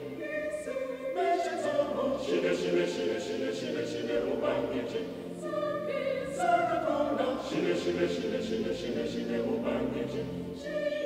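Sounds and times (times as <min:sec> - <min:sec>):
choir singing a hymn: 0:00.0 - 0:11.0.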